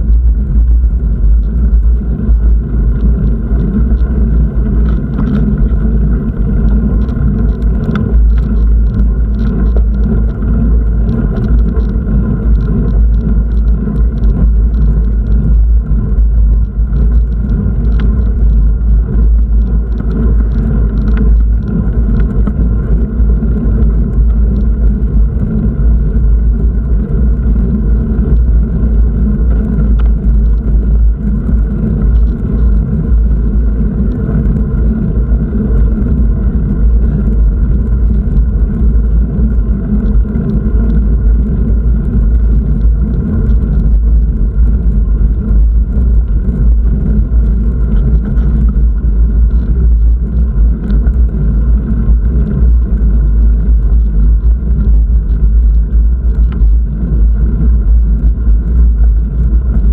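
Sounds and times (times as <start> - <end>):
road noise: 0.0 - 59.9
wind buffeting microphone: 0.0 - 59.9.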